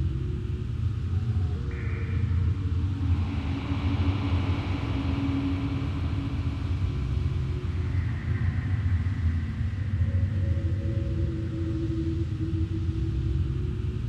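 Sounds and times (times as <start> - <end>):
low rumbling ambient drone: 0.0 - 14.0.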